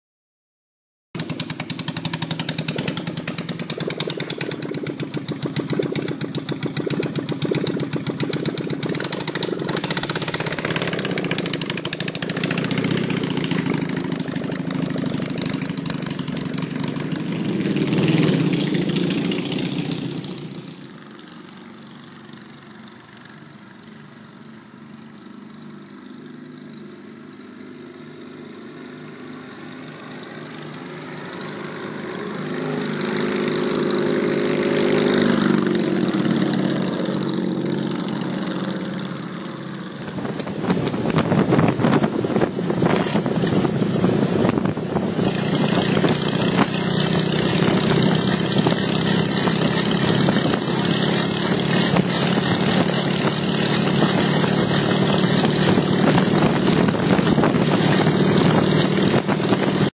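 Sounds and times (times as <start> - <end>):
motorcycle engine running: 1.2 - 59.9.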